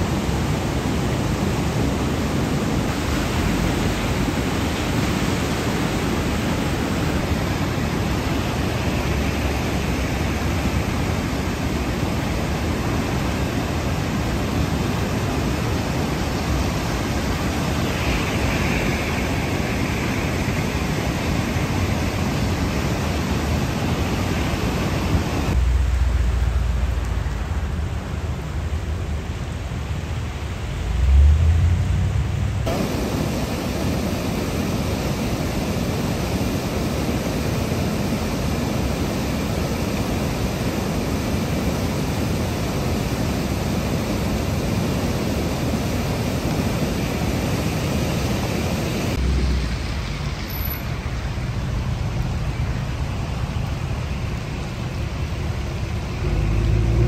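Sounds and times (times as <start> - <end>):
floodwater rushing in creek: 0.0 - 32.0, 32.6 - 57.0.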